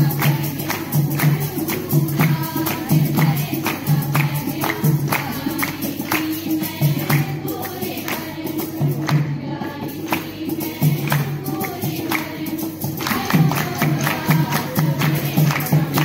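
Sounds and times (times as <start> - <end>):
rhythmic hand-clapping: 0.0 - 16.0
women singing folk song in chorus: 0.0 - 16.0.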